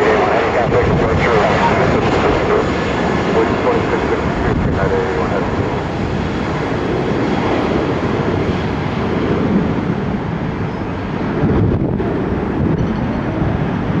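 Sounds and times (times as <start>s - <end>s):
jet engines rumbling at takeoff: 0.0s - 14.0s.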